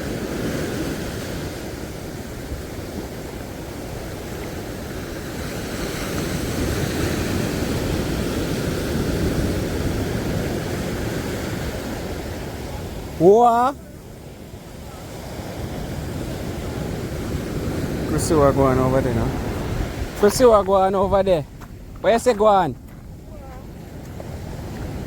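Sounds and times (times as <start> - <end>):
sea surf washing on shore: 0.0 - 25.0
wind on microphone: 0.0 - 25.0.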